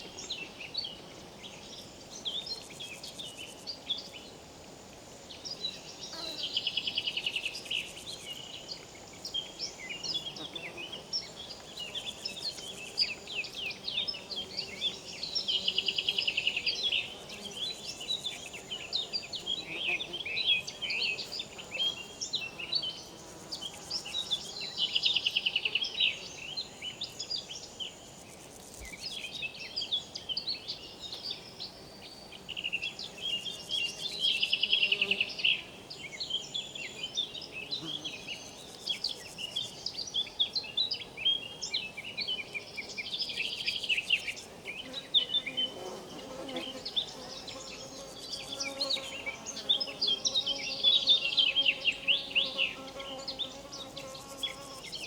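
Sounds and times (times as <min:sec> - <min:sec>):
insects chirping and buzzing: 0:00.0 - 0:55.0.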